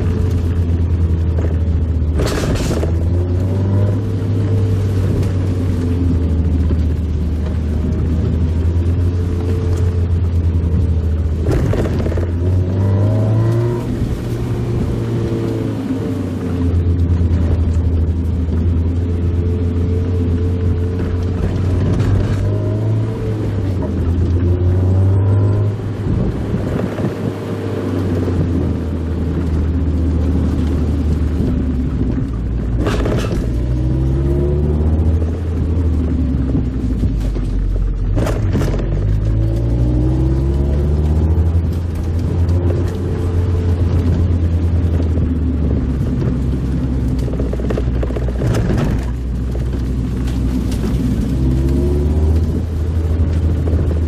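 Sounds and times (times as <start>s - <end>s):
car engine revving while driving: 0.0s - 54.0s.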